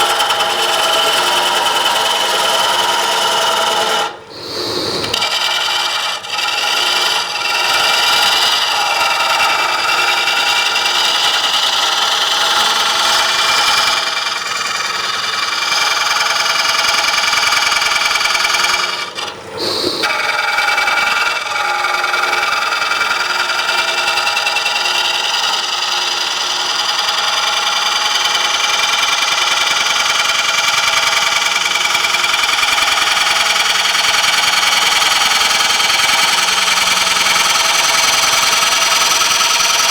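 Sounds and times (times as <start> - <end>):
lathe running: 0.0 - 39.9
lathe tool rasping cut: 0.0 - 39.9.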